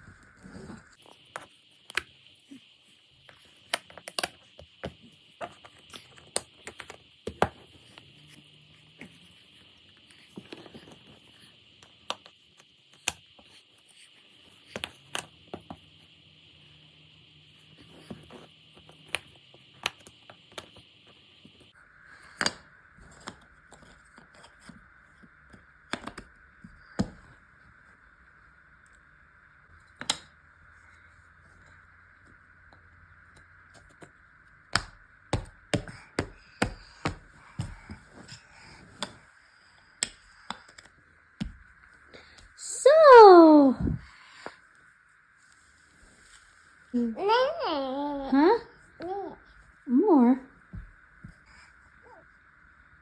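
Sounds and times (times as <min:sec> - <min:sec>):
faint steady hiss: 0:00.0 - 0:53.0.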